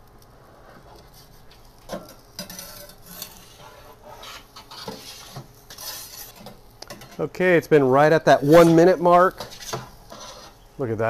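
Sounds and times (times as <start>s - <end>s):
pizza peel scraping on stone: 0.6s - 7.3s, 8.4s - 10.7s.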